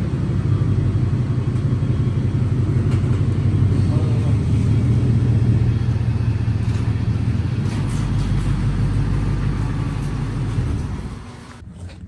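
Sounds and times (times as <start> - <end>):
pickup engine rumbling: 0.0 - 11.6.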